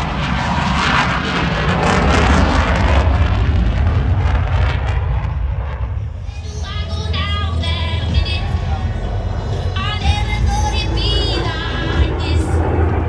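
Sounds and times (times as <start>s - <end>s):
aircraft engine roar overhead: 0.0s - 13.0s.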